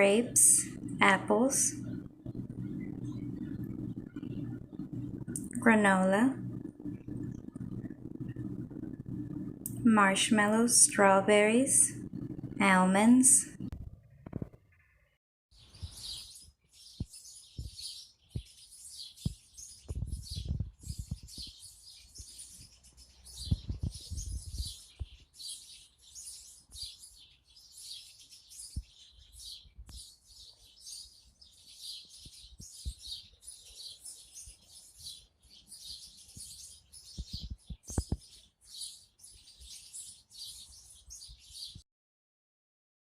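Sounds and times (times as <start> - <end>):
small birds chirping: 0.0 - 13.7, 15.6 - 41.8.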